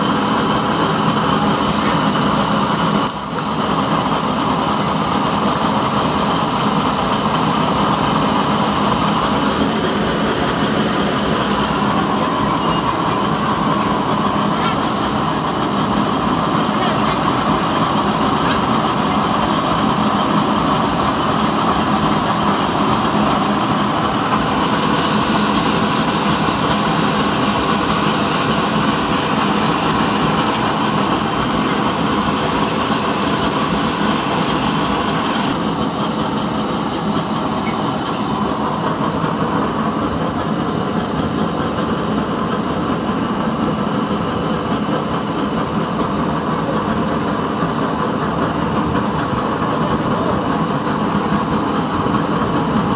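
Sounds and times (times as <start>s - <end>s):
pressurised stove burner hissing: 0.0s - 52.9s.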